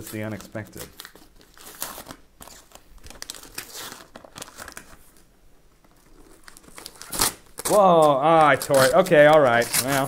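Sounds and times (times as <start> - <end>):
wrapping paper crinkling: 0.0 - 10.0.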